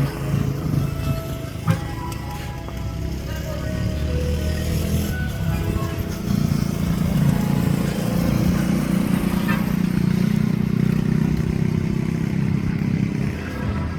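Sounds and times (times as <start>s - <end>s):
motor engine droning: 0.0s - 13.9s.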